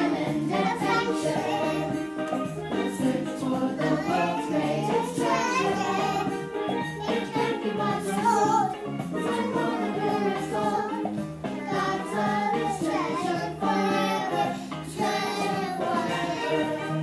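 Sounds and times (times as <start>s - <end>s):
children singing: 0.0s - 17.0s
song playing: 0.0s - 17.0s.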